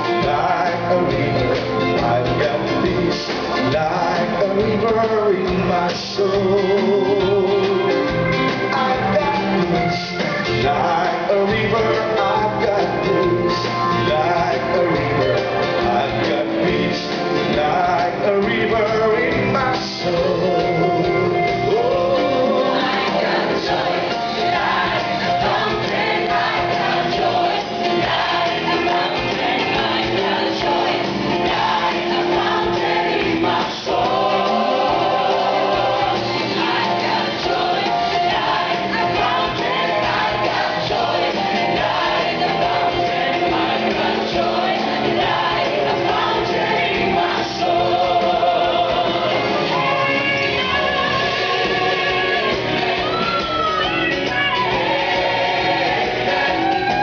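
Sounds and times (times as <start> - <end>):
bass guitar: 0.0 - 57.0
drums: 0.0 - 57.0
mixed choir singing: 0.0 - 57.0.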